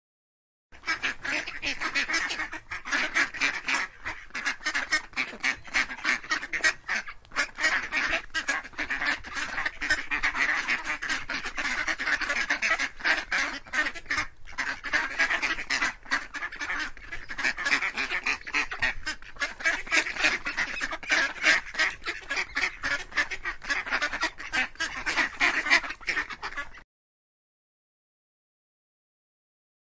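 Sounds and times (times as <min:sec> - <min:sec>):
mallard quacking: 0:00.8 - 0:26.8.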